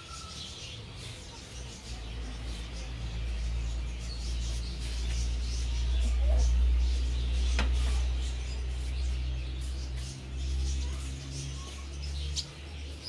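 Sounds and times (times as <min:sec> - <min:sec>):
small birds chirping: 0:00.0 - 0:13.0
steady low hum: 0:01.7 - 0:13.0.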